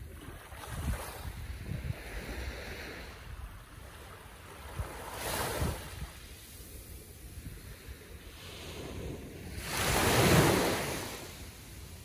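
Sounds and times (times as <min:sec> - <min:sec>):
wind buffeting microphone: 0:00.0 - 0:11.6
ocean waves lapping on shore: 0:00.0 - 0:12.0.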